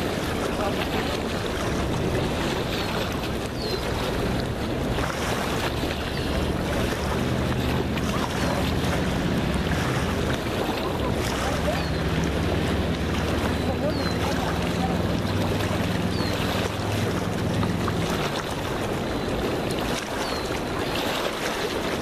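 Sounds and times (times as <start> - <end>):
river water lapping rocks: 0.0 - 22.0
wind buffeting microphone: 0.0 - 22.0.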